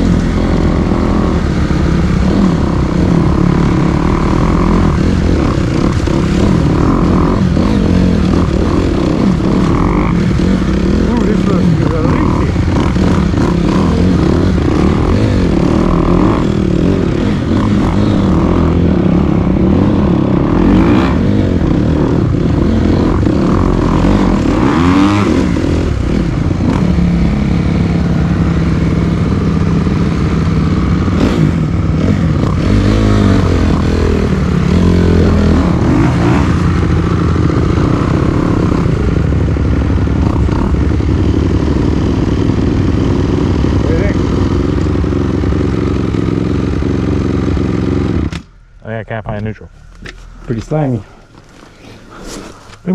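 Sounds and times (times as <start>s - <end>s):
dirt bike engine revving: 0.0s - 48.8s.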